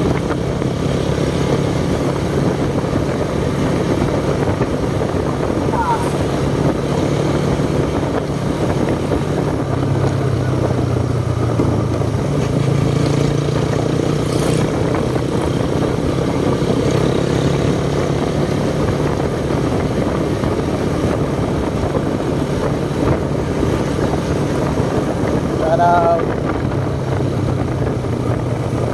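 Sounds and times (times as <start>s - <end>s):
motorcycle engine running: 0.0s - 28.9s
wind noise on microphone: 0.0s - 28.9s.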